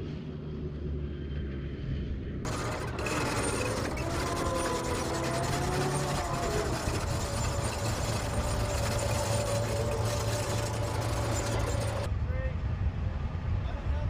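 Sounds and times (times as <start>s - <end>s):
diesel engine droning: 0.0s - 12.1s.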